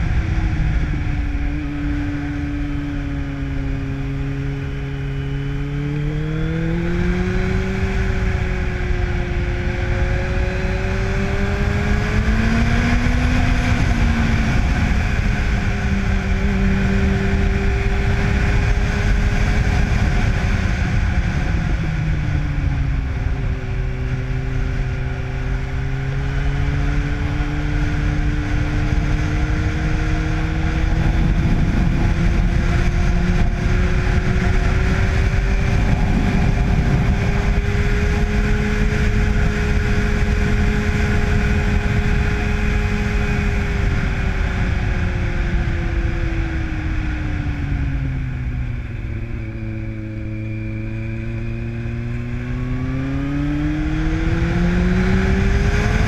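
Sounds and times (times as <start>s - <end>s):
motorcycle engine revving: 0.0s - 56.0s
wind rushing over microphone: 0.0s - 56.0s.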